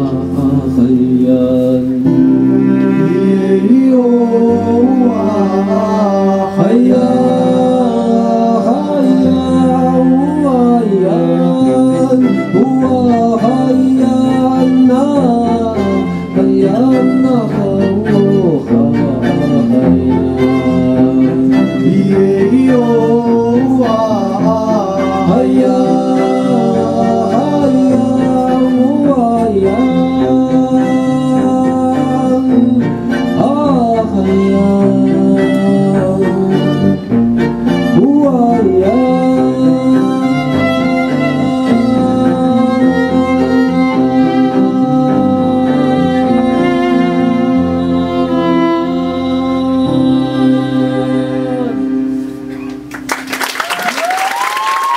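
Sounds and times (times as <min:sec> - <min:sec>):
person singing: 0:00.0 - 0:52.6
string trio playing: 0:00.0 - 0:54.2.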